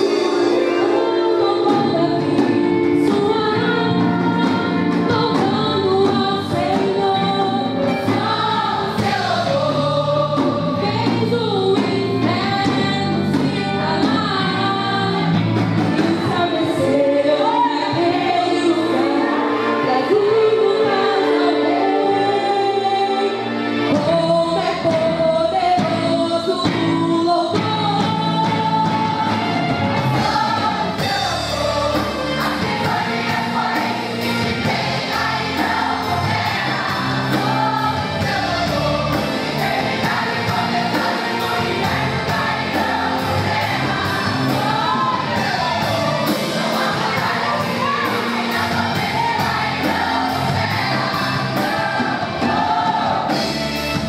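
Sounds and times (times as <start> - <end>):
women's choir singing: 0.0 - 15.3, 16.2 - 23.4, 28.6 - 53.6
live instrumental accompaniment: 0.0 - 54.0.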